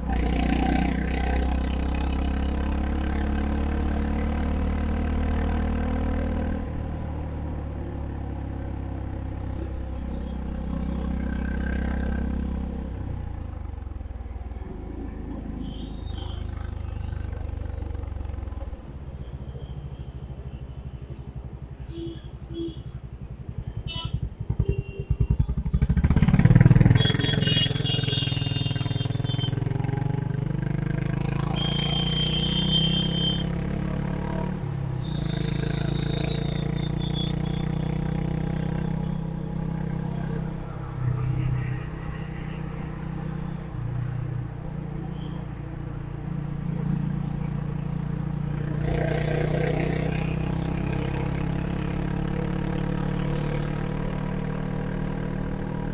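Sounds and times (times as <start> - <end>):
motorcycle engine revving: 0.0 - 19.9, 23.1 - 55.9.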